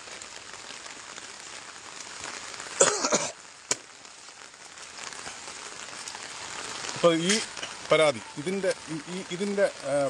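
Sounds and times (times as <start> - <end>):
rain falling on road: 0.0 - 10.0.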